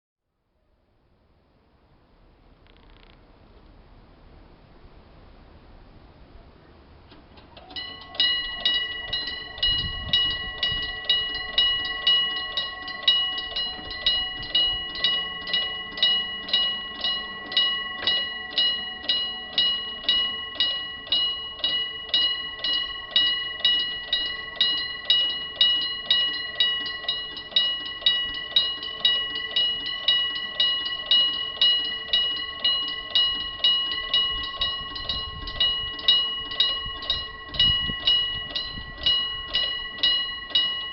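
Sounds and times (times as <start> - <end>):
electric level crossing bell ringing: 7.6 - 40.9.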